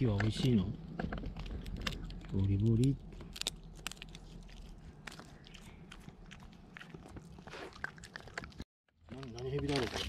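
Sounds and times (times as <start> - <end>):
dog chewing wooden stick: 0.2 - 9.9.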